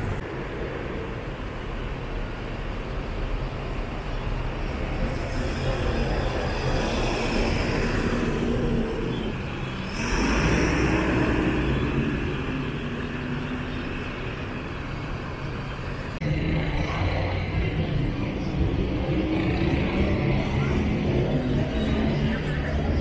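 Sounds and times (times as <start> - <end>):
diesel bus engines: 0.0 - 23.0.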